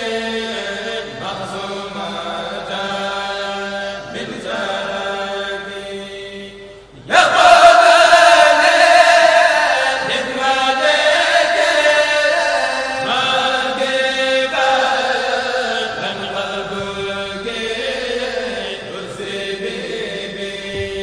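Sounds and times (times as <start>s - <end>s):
devotional chanting: 0.0s - 21.0s.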